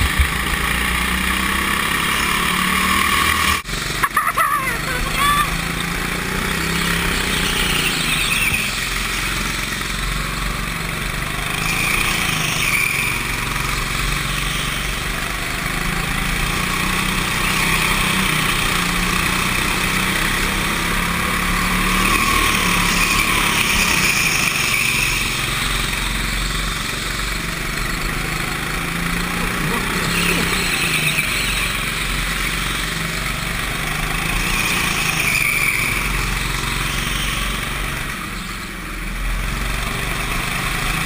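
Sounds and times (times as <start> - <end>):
go-kart engine running: 0.0 - 41.0.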